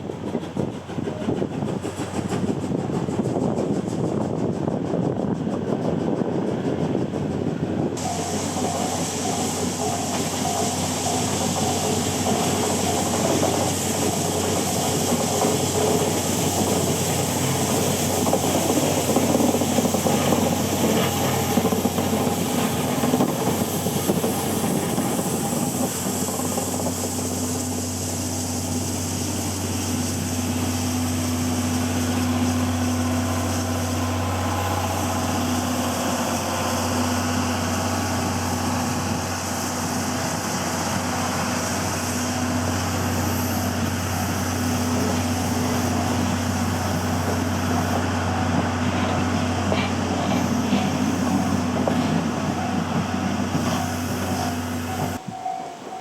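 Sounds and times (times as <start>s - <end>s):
steam hissing: 0.0s - 56.0s
wheels clattering on rails: 0.0s - 56.0s.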